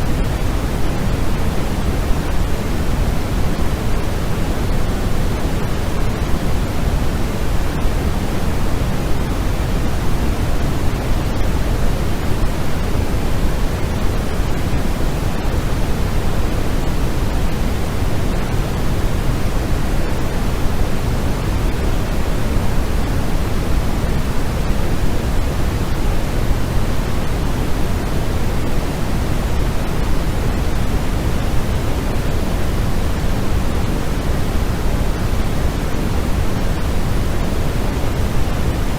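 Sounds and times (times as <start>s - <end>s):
white noise: 0.0s - 38.9s.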